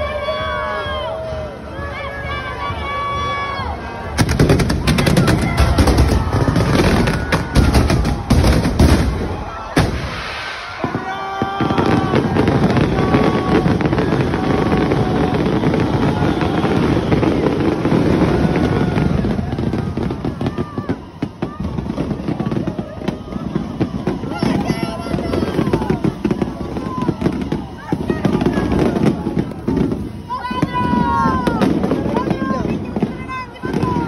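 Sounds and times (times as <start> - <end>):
crowd din with shouting: 0.0 - 34.0
firecrackers cracking: 4.1 - 34.0.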